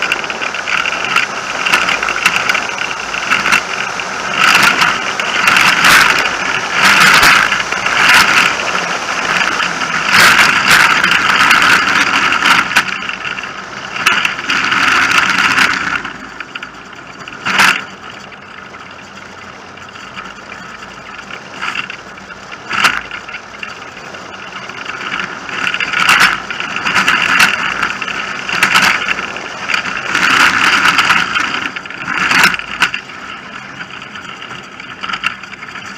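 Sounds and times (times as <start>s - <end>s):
wheel and body rattle: 0.0s - 35.9s.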